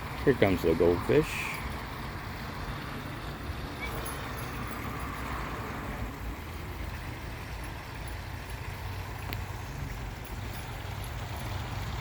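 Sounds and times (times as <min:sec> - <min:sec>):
pond waterfall splashing: 0:00.0 - 0:12.0.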